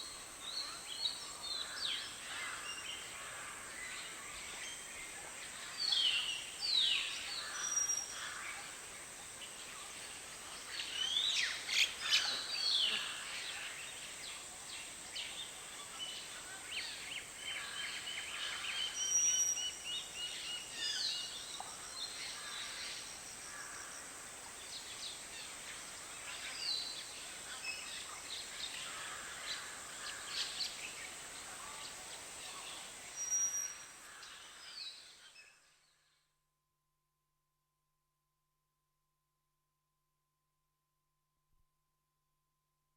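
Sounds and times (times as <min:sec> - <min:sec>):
background hiss: 0:00.0 - 0:35.4.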